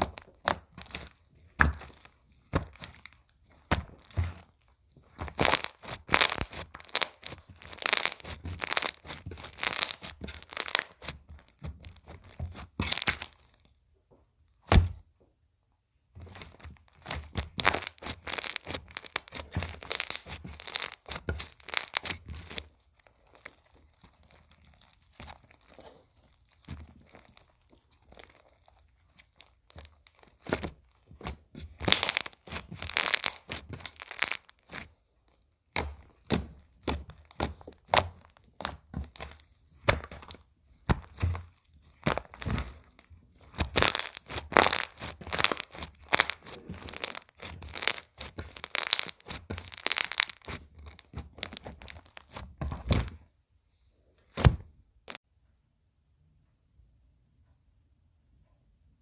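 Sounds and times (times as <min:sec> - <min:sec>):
slime crackling and popping: 0:00.0 - 0:13.6, 0:16.2 - 0:53.2.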